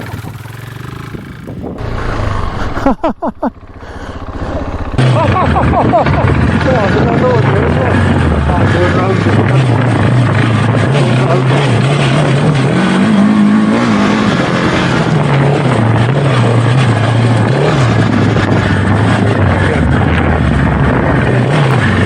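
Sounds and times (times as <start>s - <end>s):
motorcycle engine revving: 0.0s - 22.0s
steady rushing noise: 0.0s - 22.0s.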